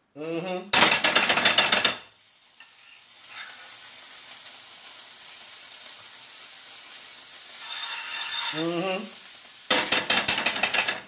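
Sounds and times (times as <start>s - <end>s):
pancakes sizzling in a frying pan: 0.8s - 11.0s.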